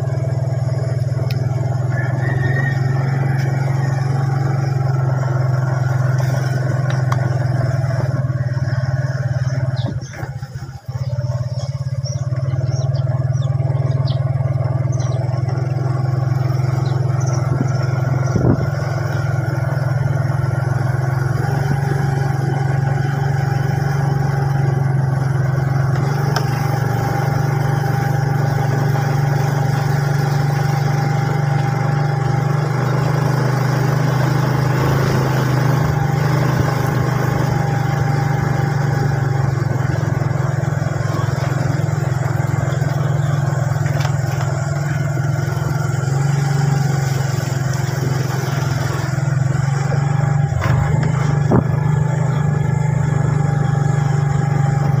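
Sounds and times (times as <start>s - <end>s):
motorcycle engine cruising: 0.0s - 55.0s
road and wind noise: 0.0s - 55.0s.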